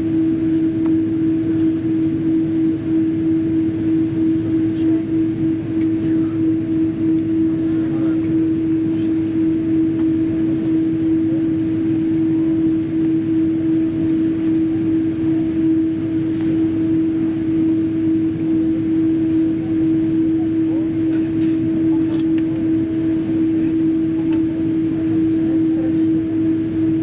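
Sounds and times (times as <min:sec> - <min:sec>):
aircraft cabin hum: 0:00.0 - 0:27.0
low rumble of aircraft systems: 0:00.0 - 0:27.0.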